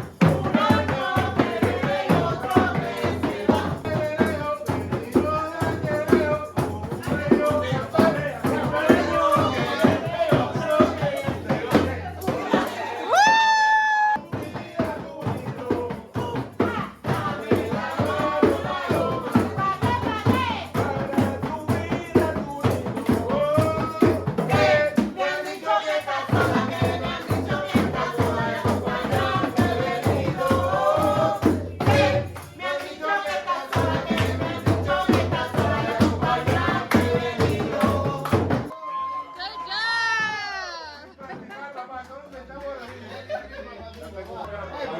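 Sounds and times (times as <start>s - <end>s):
music with busy beat: 0.0s - 38.8s.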